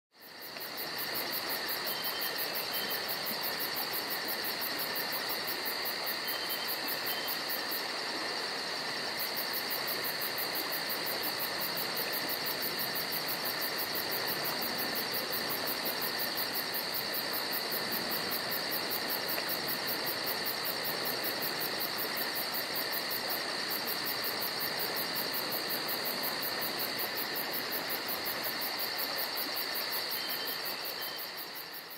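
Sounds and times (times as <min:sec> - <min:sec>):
crickets and insects trilling: 0:00.2 - 0:31.9.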